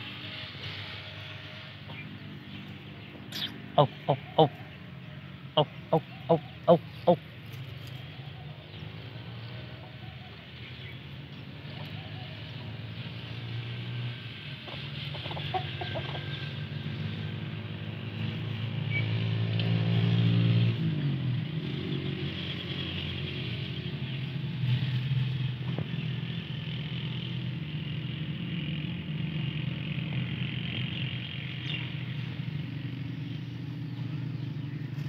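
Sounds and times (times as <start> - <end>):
low engine hum: 0.0 - 35.0
vehicle engine passing: 0.0 - 35.0.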